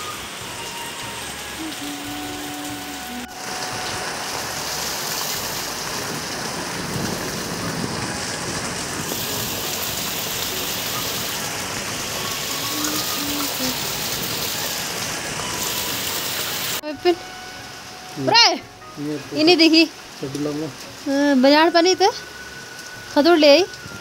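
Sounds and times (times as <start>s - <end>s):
runoff splashing onto paving: 0.0s - 16.8s, 18.2s - 24.0s
rain falling on roofs and concrete: 0.0s - 24.0s.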